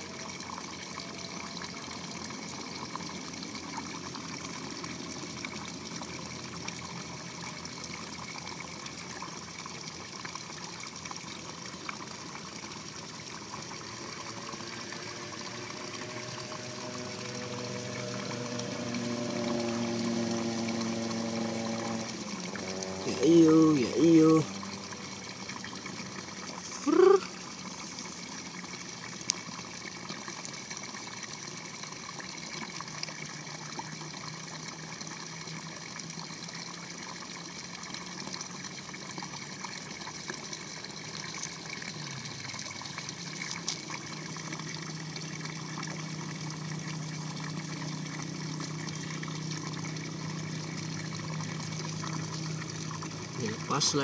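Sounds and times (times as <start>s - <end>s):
water trickling in ditch: 0.0s - 54.0s.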